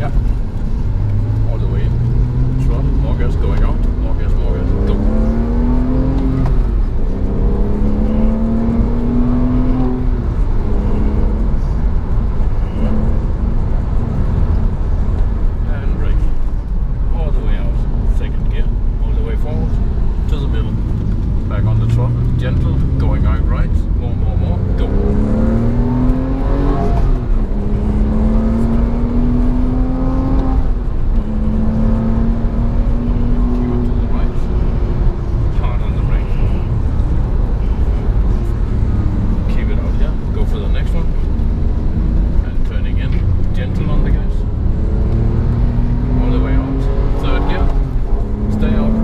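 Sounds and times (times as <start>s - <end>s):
car engine accelerating hard: 0.0s - 49.0s.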